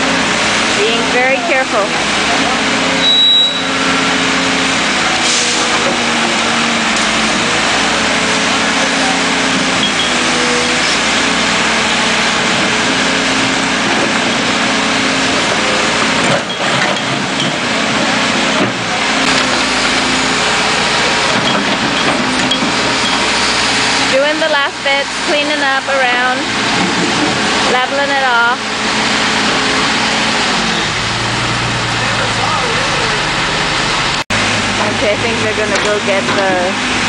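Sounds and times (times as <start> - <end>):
backhoe engine running: 0.0 - 37.0.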